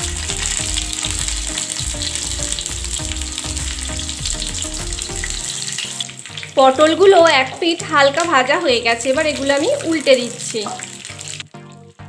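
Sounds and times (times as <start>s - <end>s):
vegetable pieces sizzling in oil: 0.0s - 11.5s.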